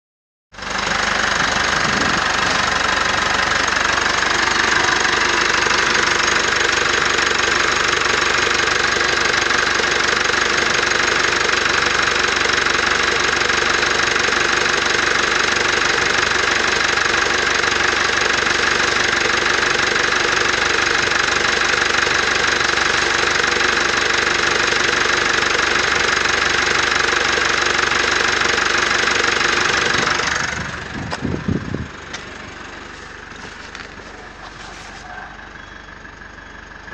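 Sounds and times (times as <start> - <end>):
diesel engine idling: 0.6 - 36.9.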